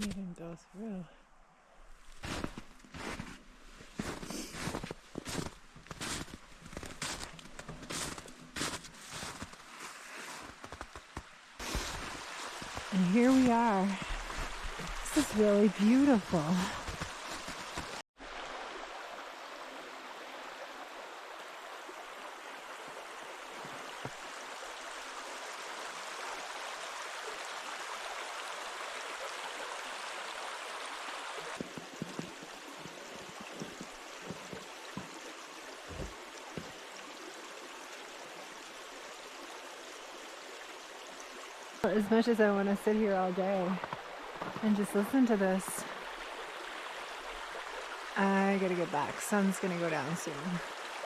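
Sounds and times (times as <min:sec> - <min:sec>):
brook water rushing: 0:02.1 - 0:51.0.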